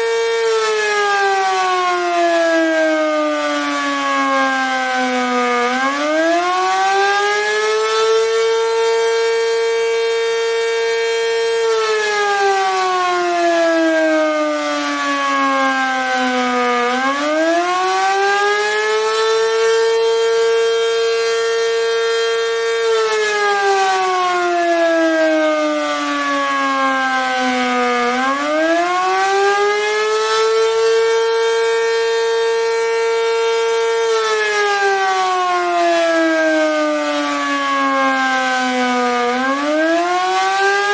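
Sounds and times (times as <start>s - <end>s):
warning siren wailing: 0.0s - 40.9s.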